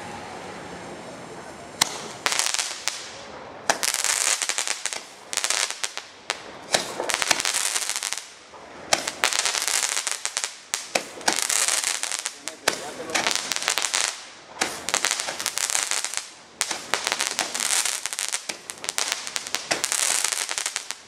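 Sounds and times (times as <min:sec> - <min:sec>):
fireworks cracking: 0:01.8 - 0:21.0
hissing crackling sparks with pops: 0:01.8 - 0:21.0.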